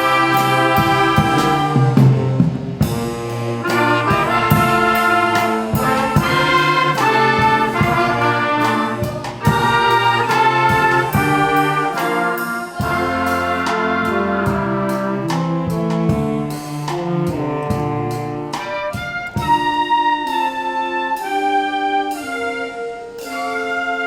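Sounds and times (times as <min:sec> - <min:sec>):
brass ensemble music: 0:00.0 - 0:24.0.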